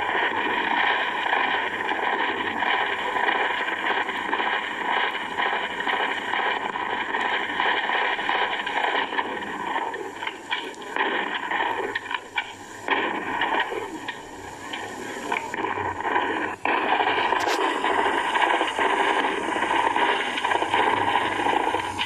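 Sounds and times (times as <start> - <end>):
harsh static-like noise: 0.0 - 22.0.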